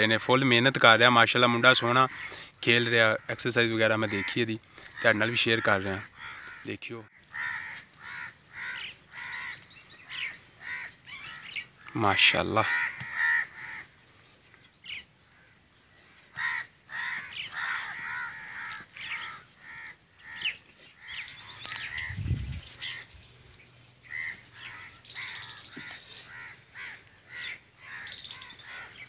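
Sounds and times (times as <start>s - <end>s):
crows cawing: 0.0s - 22.2s, 22.8s - 23.2s, 24.0s - 29.0s
small birds chirping: 0.0s - 29.0s.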